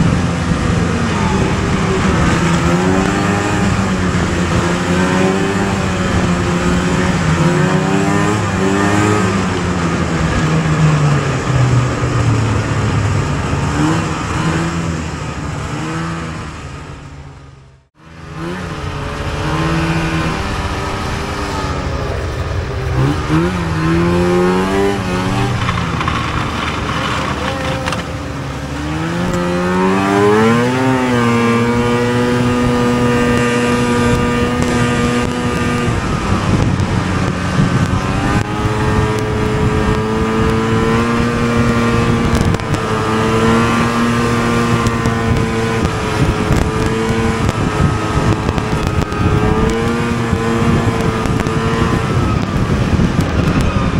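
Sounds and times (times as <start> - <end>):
two-stroke snowmobile engine revving: 0.0 - 53.9.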